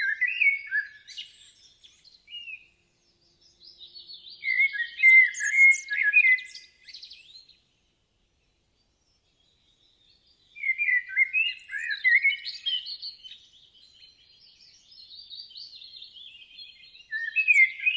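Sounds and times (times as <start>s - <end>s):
birds chirping and singing: 0.0s - 17.9s.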